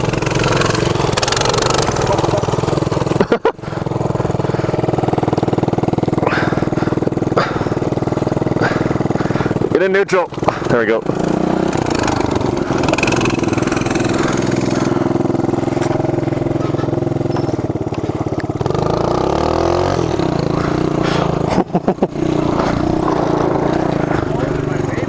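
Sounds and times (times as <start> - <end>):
mini bike engine revving: 0.0 - 25.0.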